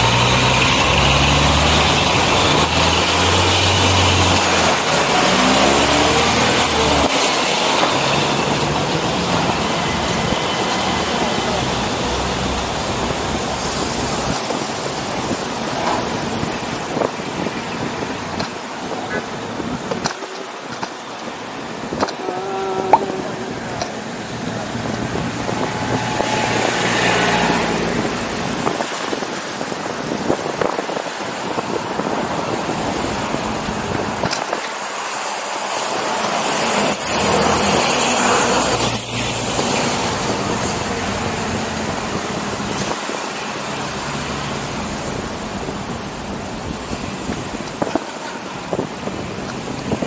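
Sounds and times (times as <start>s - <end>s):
road and traffic noise: 0.0s - 50.0s
vehicles passing: 0.0s - 50.0s.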